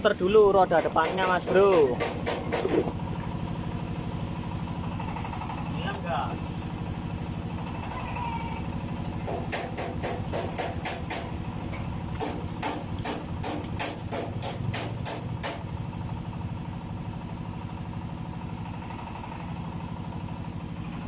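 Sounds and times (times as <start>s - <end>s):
scooter engine idling: 0.0s - 21.0s.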